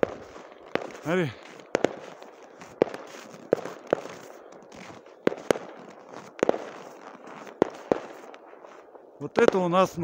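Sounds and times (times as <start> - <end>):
faint firework pops: 0.0 - 8.5
firework shells bursting: 0.0 - 10.0.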